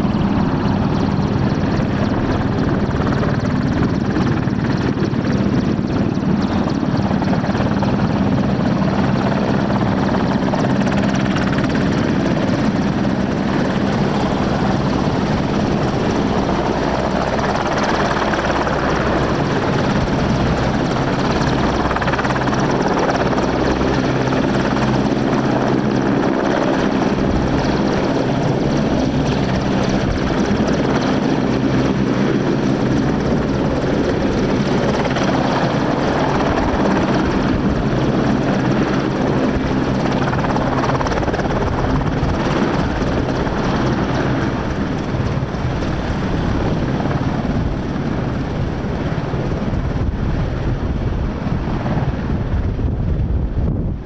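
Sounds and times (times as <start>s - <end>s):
helicopter engines and rotors: 0.0s - 54.0s.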